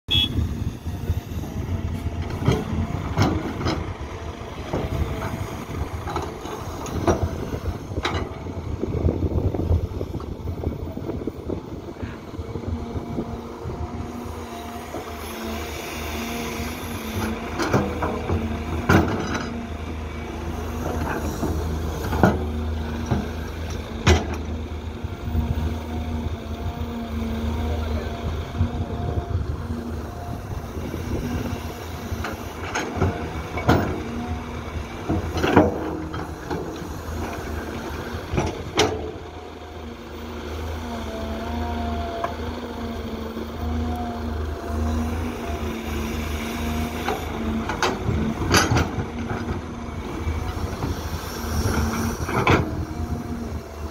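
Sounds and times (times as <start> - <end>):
excavator diesel engine running: 0.1 - 53.9.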